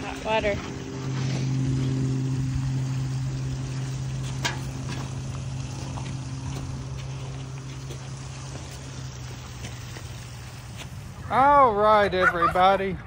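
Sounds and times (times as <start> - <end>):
water splashing onto gravel: 0.0 - 11.5
low motor hum: 0.0 - 12.2.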